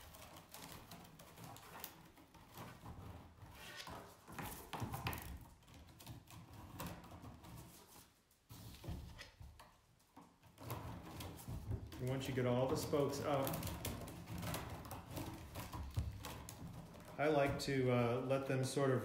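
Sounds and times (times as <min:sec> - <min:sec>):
reed spokes rustling and clicking: 0:00.0 - 0:08.1, 0:08.8 - 0:17.7.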